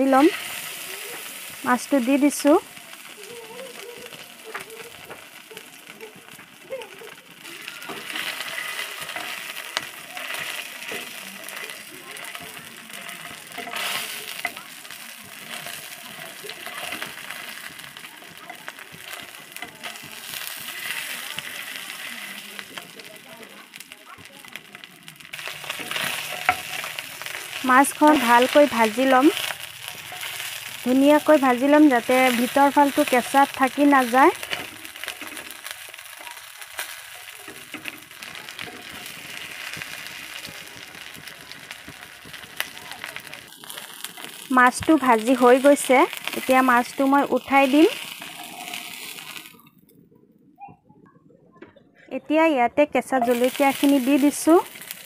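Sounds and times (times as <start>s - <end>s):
fish frying in hot oil: 0.0s - 49.8s, 53.2s - 55.0s
oil popping and crackling: 0.0s - 50.1s, 53.1s - 55.0s.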